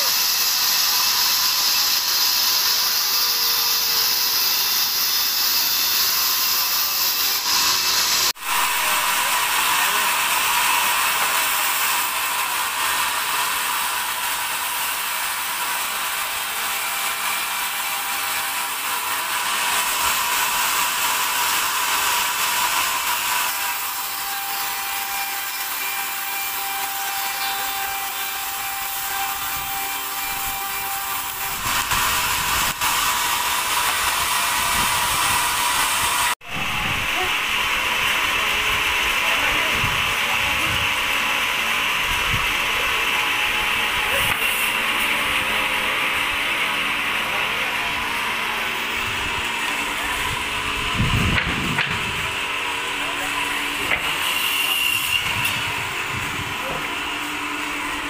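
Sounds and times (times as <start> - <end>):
sawmill machinery hissing and whining: 0.0 - 58.0.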